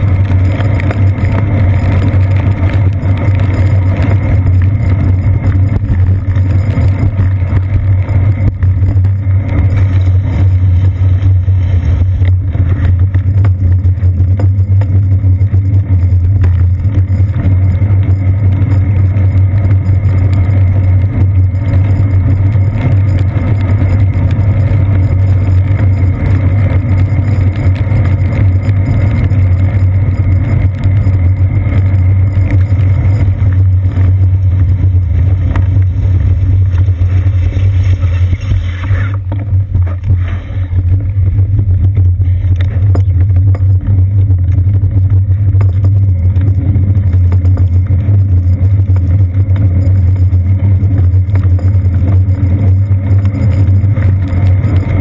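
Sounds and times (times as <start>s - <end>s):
muffled road and wind rumble: 0.0s - 55.0s.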